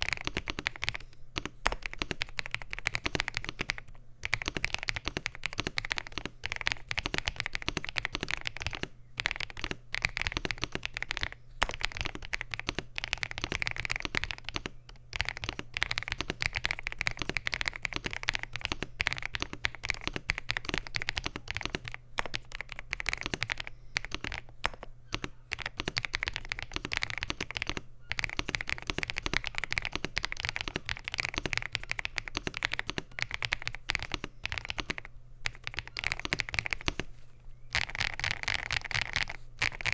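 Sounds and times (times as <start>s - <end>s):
mechanical keyboard typing: 0.0s - 37.1s, 37.7s - 39.9s.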